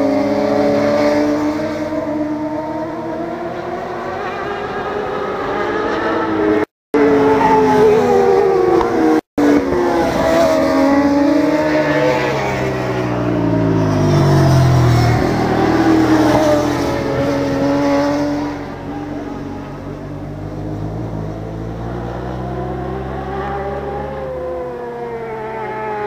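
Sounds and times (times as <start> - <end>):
motorcycle passing close: 0.0 - 26.0
racing motorcycle engines: 0.0 - 26.0.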